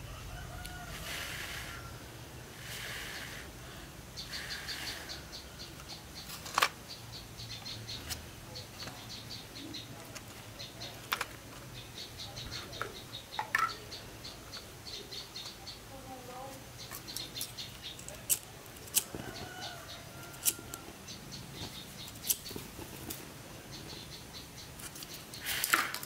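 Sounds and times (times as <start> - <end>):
small bird chirping: 4.1 - 18.4, 19.0 - 25.6.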